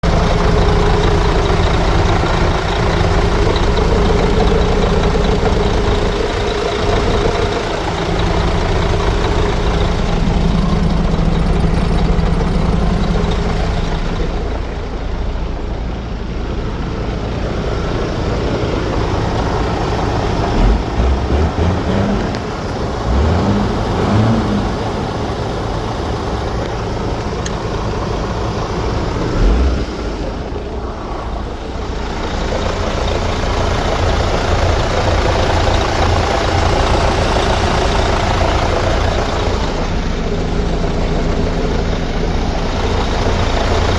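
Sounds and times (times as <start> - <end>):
truck diesel engine running: 0.0 - 43.9.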